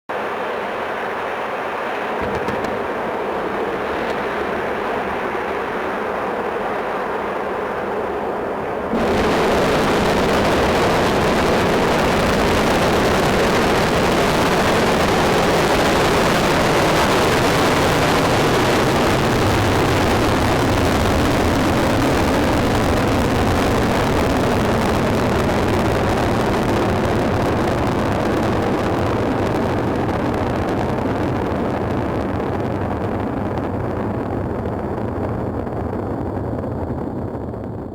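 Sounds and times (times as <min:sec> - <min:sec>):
rocket engines roaring: 0:00.1 - 0:37.9.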